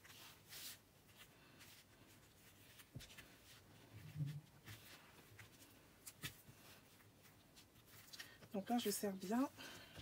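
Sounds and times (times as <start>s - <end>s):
thread and paper rustling: 0.0s - 10.0s.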